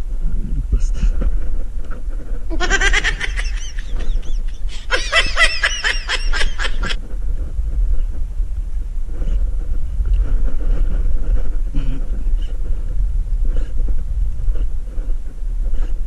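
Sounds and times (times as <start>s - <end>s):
deep rumble: 0.0s - 16.0s.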